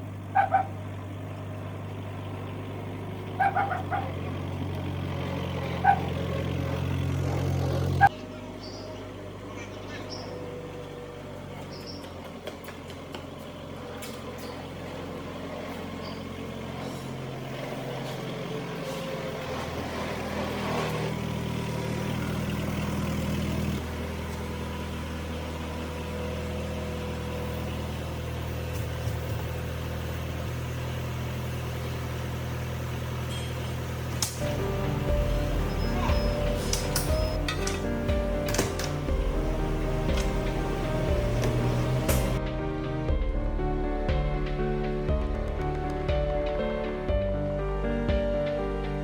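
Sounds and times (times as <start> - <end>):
engine humming: 0.0 - 49.0.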